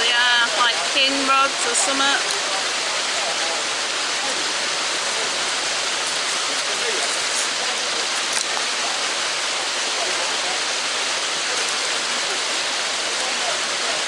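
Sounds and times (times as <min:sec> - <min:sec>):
faint voices: 0:00.0 - 0:14.0
rushing water hiss: 0:00.0 - 0:14.0.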